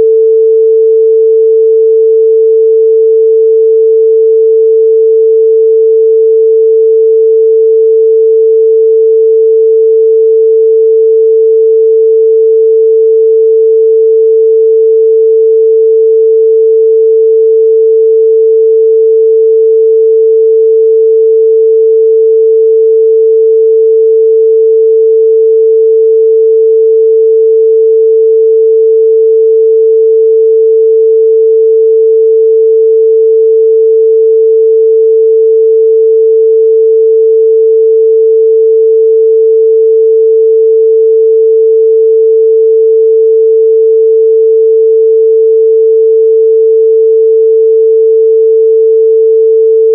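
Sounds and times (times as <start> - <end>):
sine test tone: 0.0 - 49.9.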